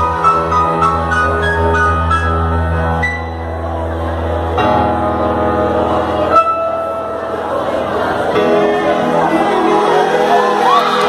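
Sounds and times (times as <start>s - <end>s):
held keyboard chords: 0.0s - 11.0s
rock band playing power ballad: 0.0s - 11.0s.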